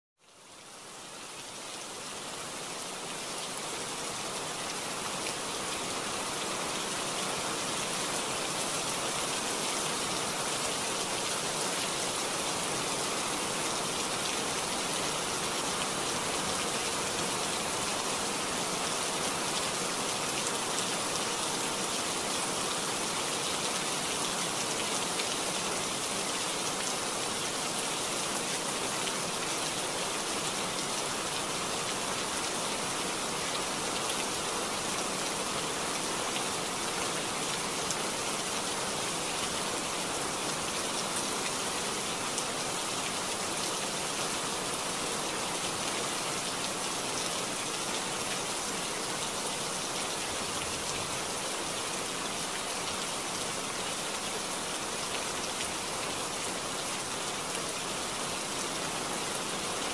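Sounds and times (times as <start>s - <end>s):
heavy rain pouring: 0.8s - 59.9s.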